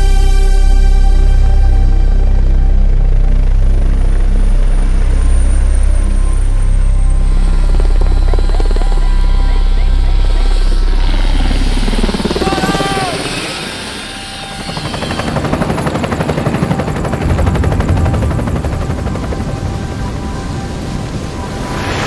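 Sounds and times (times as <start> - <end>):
helicopter rotor chop: 3.4 - 22.0.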